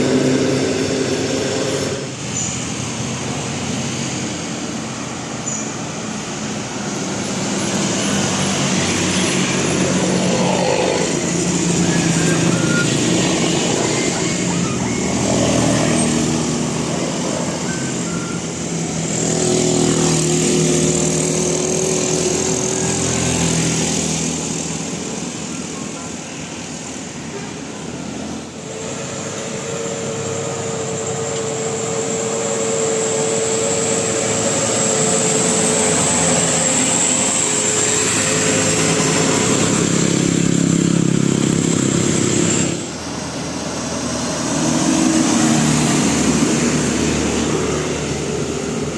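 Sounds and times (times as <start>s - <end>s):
buses driving past: 0.0s - 48.9s
voices: 4.4s - 48.9s.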